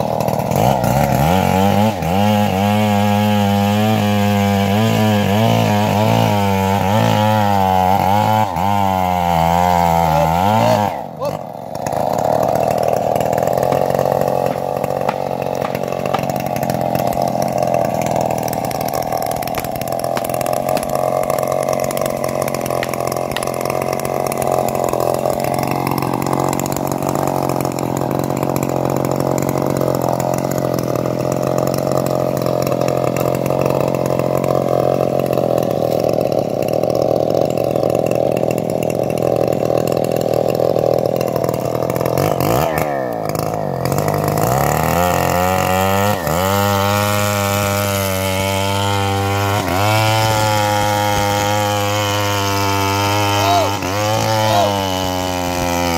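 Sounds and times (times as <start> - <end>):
chainsaw cutting tree trunk: 0.0 - 55.9.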